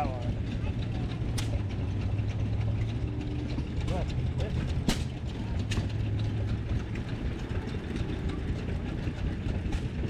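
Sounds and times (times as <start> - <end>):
old engines chugging: 0.0 - 10.0.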